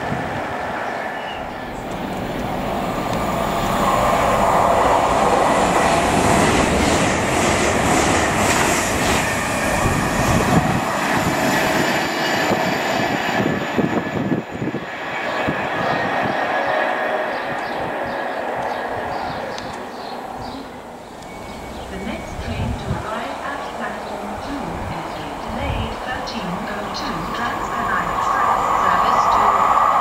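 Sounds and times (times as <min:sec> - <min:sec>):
train passing on rails: 0:00.0 - 0:30.0.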